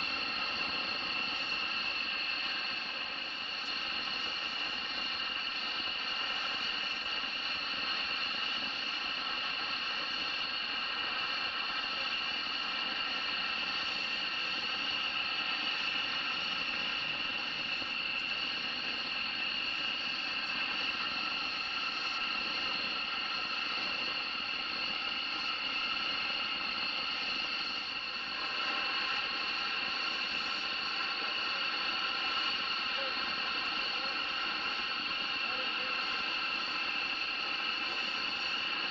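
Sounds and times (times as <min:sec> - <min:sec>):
turbine engine whine: 0:00.0 - 0:38.9.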